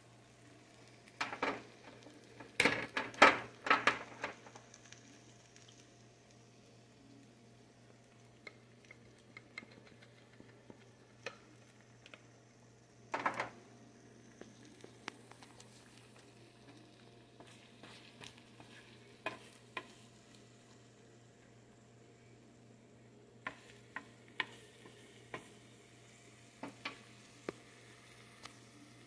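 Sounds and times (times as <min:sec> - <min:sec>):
omelet sizzling in a pan: 0:00.0 - 0:29.0.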